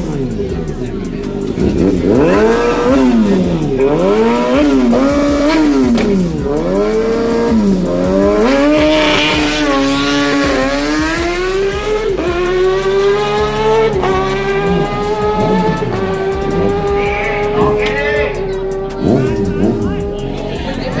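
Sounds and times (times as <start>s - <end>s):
sport bike engine revving: 0.0s - 21.0s.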